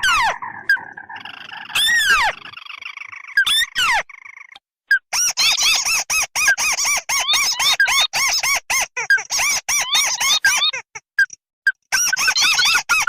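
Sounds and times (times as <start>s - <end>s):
squeaky bird calls: 0.0s - 13.0s.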